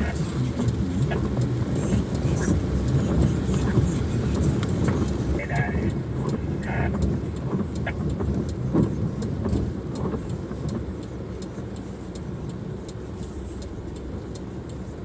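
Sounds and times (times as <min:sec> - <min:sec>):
car engine rumbling: 0:00.0 - 0:15.0
faint ticks: 0:00.1 - 0:15.0.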